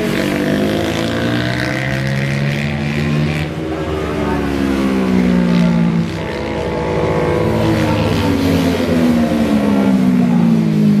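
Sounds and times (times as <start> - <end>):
racing motorcycle engine: 0.0 - 11.0.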